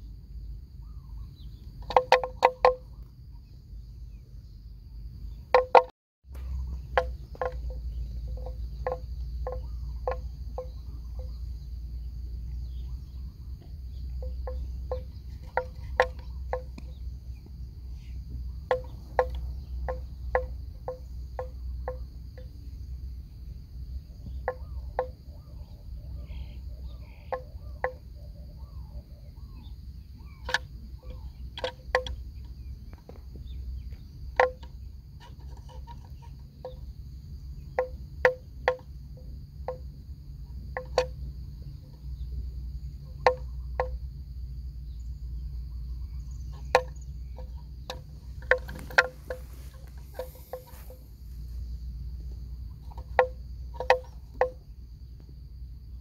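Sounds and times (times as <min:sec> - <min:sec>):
high insect drone: 0:00.0 - 0:56.0
animal bells clunking: 0:01.7 - 0:02.9, 0:05.5 - 0:42.2, 0:42.8 - 0:44.1, 0:45.4 - 0:54.7.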